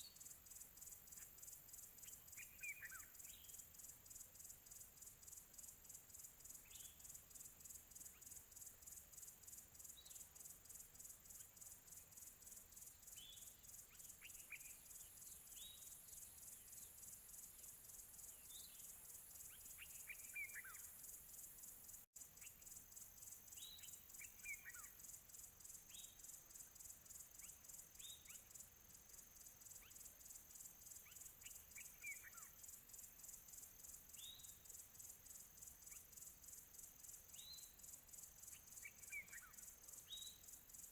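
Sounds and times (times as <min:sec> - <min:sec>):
crickets trilling: 0:00.1 - 0:40.9.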